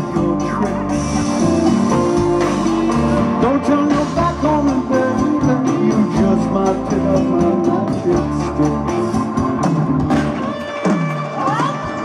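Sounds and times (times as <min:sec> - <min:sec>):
organ: 0:00.0 - 0:11.3
electric guitar: 0:00.0 - 0:12.0
percussion: 0:00.0 - 0:12.0.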